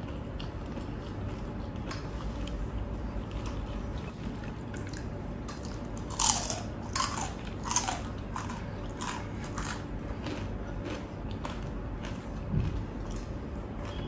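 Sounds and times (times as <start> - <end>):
crunchy food chewing: 0.0 - 14.0.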